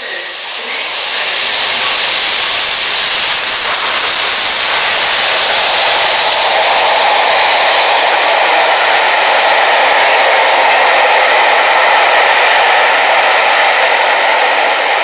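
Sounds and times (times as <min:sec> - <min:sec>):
steam train rushing past: 0:00.0 - 0:15.0.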